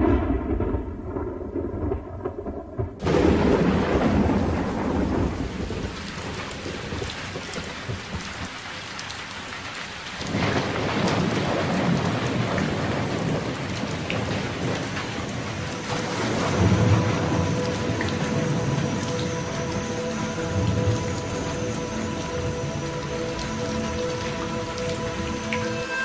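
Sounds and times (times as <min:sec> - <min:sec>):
heavy rain and hail: 0:00.0 - 0:26.0.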